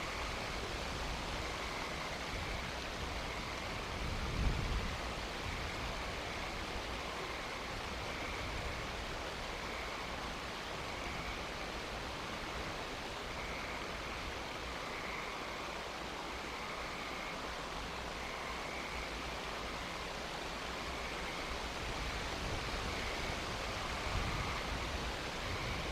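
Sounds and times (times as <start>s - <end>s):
steady hiss: 0.0s - 25.9s.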